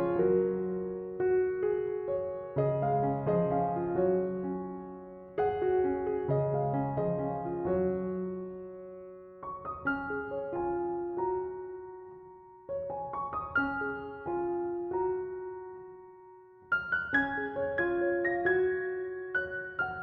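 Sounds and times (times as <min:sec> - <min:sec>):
slow calm piano music: 0:00.0 - 0:20.0.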